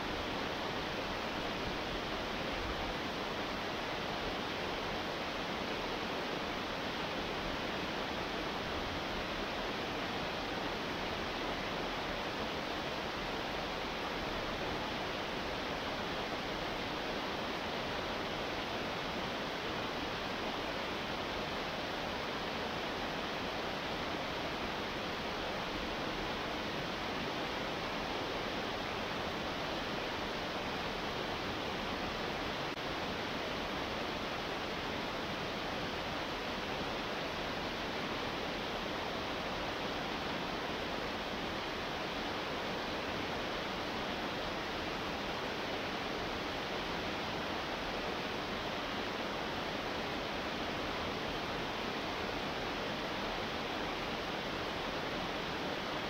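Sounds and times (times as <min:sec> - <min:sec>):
waterfall cascading over rocks: 0:00.0 - 0:56.0.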